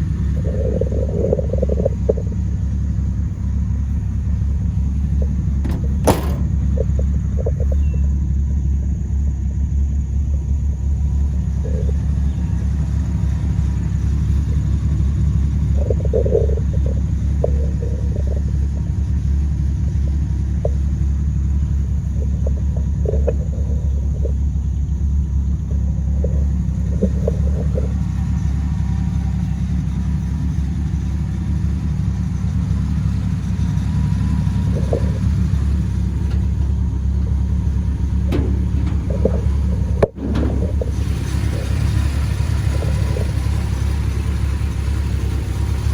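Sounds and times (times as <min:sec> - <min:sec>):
faint squeaks or rattles: 0:00.0 - 0:08.4, 0:10.4 - 0:45.9
pickup engine rumble: 0:00.0 - 0:45.9.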